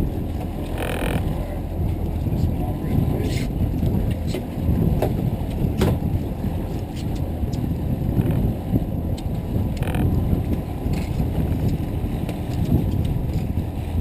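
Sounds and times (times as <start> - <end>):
boat motor and water rumble: 0.0 - 14.0
wind buffeting microphone: 0.0 - 14.0.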